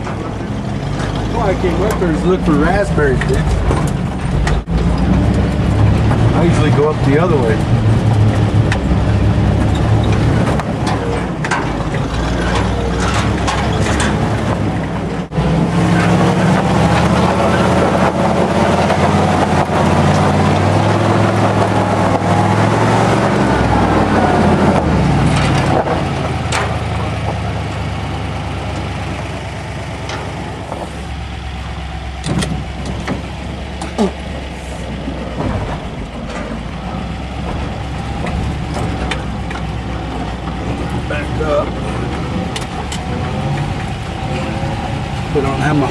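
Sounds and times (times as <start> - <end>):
truck engine pulling uphill: 0.0 - 45.9
truck rattling over rocks: 0.0 - 45.9.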